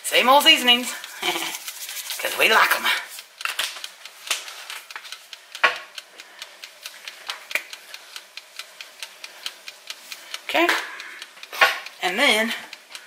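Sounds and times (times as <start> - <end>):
seasoning shaker ticks: 0.0 - 13.0.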